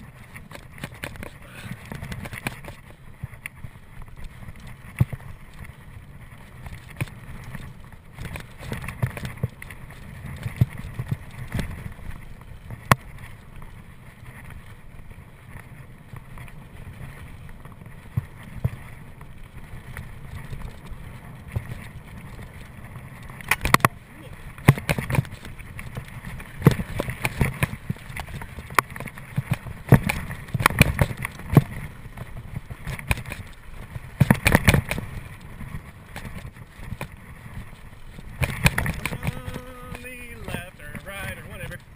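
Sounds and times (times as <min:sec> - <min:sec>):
bike knocking and rattling: 0:00.0 - 0:41.9
bike tyres rumbling on dirt: 0:00.0 - 0:41.9.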